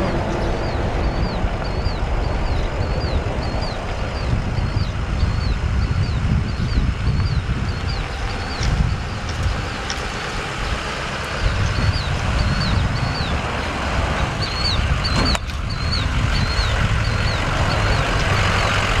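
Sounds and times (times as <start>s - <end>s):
small bird chirping: 0.0s - 13.4s, 14.4s - 18.0s
low uneven rumble: 0.0s - 19.0s.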